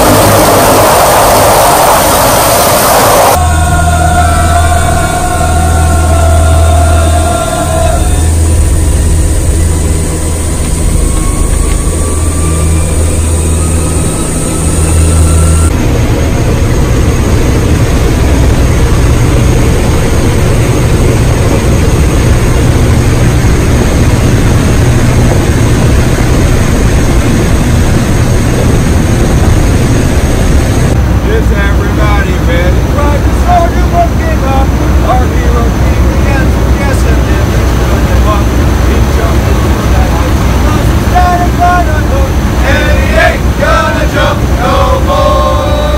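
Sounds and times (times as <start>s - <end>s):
aircraft engines droning in cabin: 0.0s - 45.9s.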